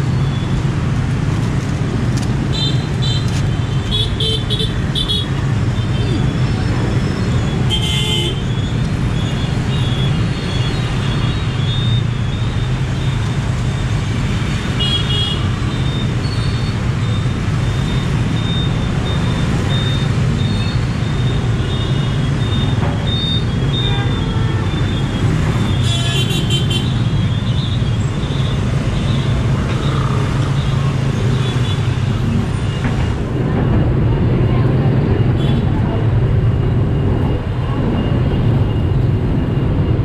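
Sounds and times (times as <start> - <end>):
street traffic noise: 0.0 - 40.0.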